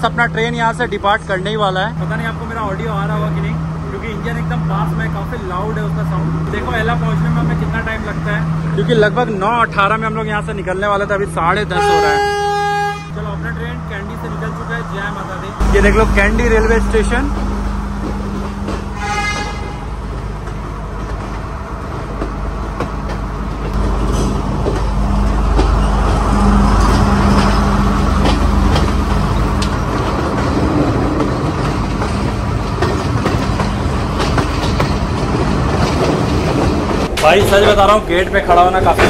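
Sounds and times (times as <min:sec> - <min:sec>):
train engine drone: 0:00.0 - 0:39.0.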